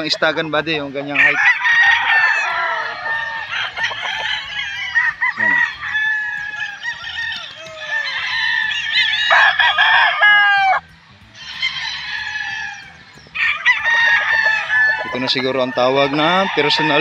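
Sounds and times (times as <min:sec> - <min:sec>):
roosters crowing: 0:00.0 - 0:17.0.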